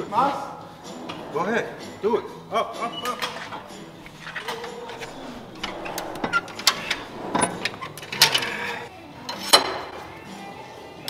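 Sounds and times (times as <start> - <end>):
metal clanks and knocks: 0.8 - 9.9.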